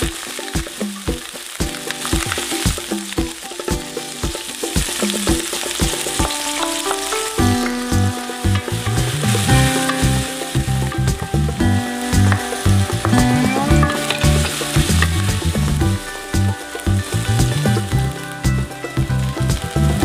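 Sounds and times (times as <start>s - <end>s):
background music: 0.0s - 20.0s
onions sizzling in oil: 0.0s - 20.0s.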